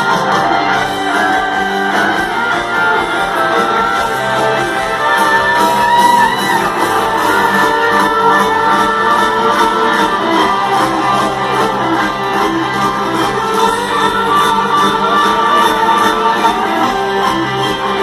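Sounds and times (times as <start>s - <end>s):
electric guitar lead line: 0.0s - 18.0s
rock band playing: 0.0s - 18.0s.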